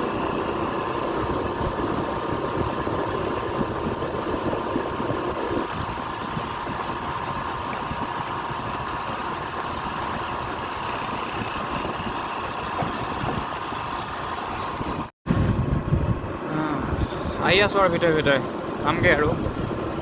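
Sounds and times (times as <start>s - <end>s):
scooter engine running: 0.0s - 17.4s
road noise: 0.0s - 20.0s
wind buffeting microphone: 0.0s - 20.0s.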